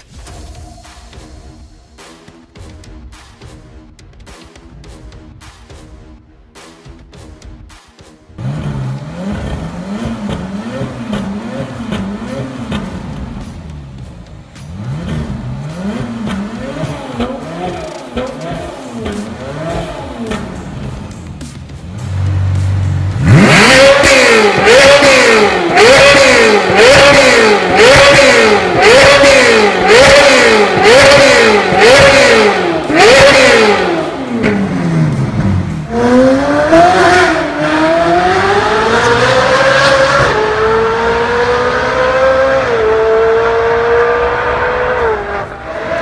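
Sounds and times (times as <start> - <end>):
car accelerating along road: 8.4 - 46.0
sports car engine revving: 8.4 - 46.0.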